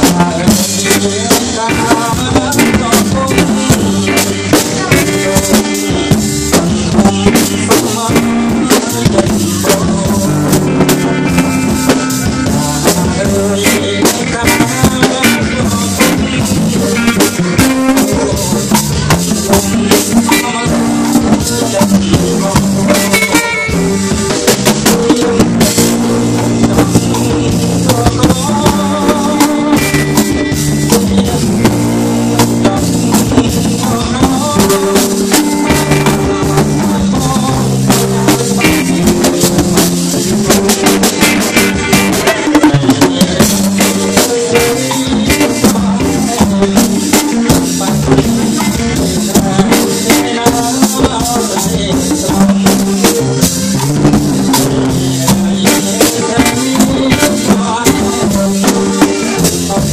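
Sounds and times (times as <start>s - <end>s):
drum kit beat: 0.0s - 59.9s
live band music: 0.0s - 59.9s
man singing into microphone: 0.0s - 59.9s.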